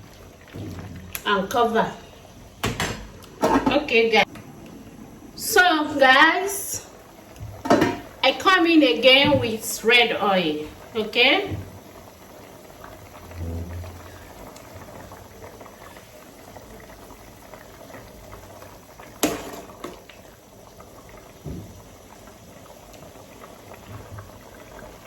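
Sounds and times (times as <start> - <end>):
soup bubbling in a pot: 0.0 - 25.0.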